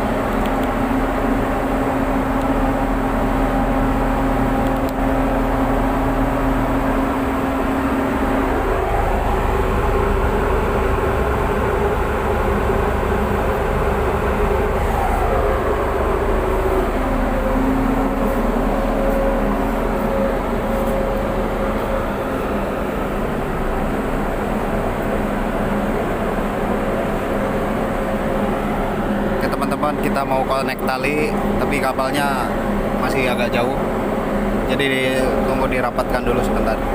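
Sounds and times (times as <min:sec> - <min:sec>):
diesel engines running: 0:00.0 - 0:36.9.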